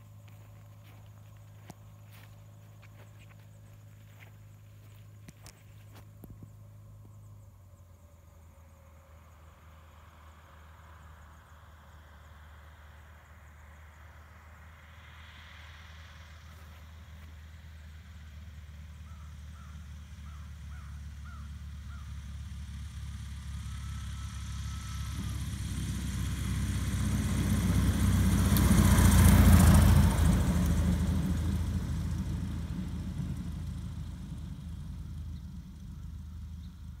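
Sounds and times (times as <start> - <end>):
light aircraft engine and propeller: 0.0 - 37.0.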